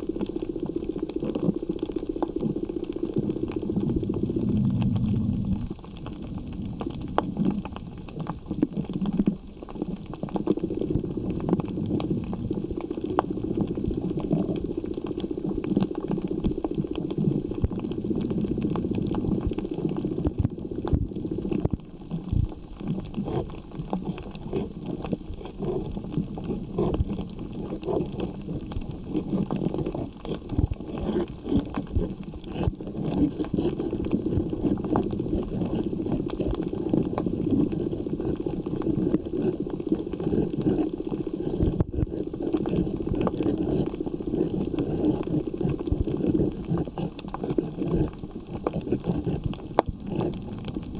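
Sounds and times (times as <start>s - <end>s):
muffled underwater rumble: 0.0s - 50.9s
underwater clicks and crackles: 0.0s - 50.9s.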